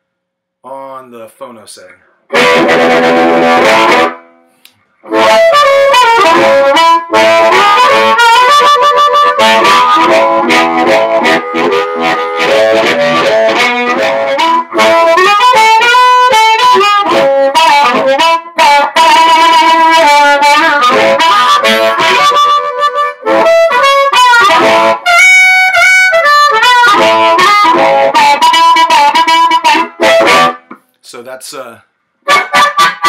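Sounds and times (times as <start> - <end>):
amplified harmonica playing: 2.4 - 30.6, 32.3 - 33.0.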